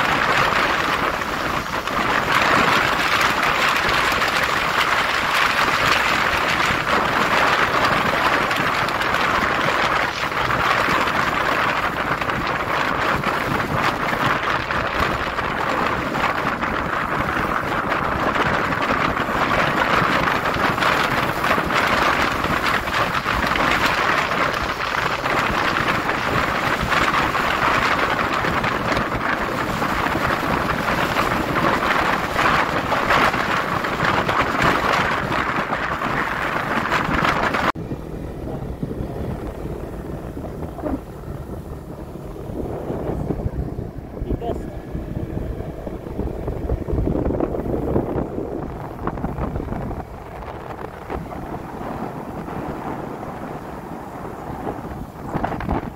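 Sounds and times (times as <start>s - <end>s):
motorcycle engine and road noise: 0.0s - 55.9s
wind over microphone: 0.0s - 55.9s.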